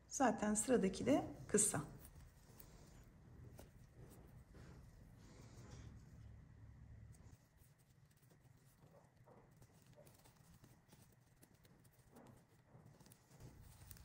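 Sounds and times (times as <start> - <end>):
paper yarn rustling: 0.7 - 14.0.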